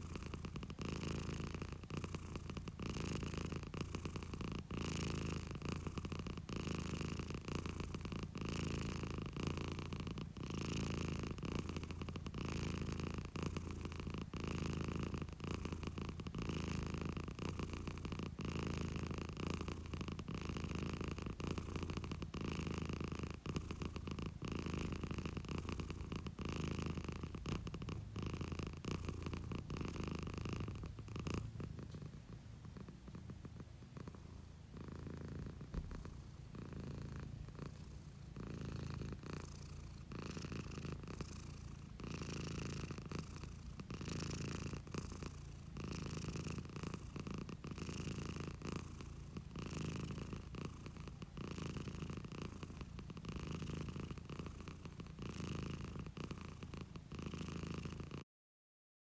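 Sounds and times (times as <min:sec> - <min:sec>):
cat purring: 0:00.0 - 0:58.3.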